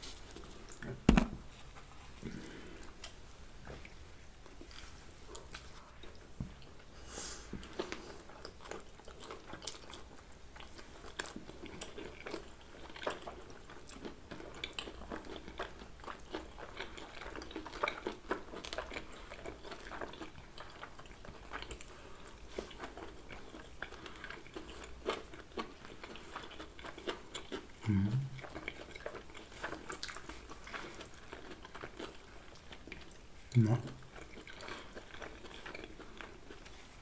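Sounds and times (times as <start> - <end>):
people chewing: 1.9 - 37.0.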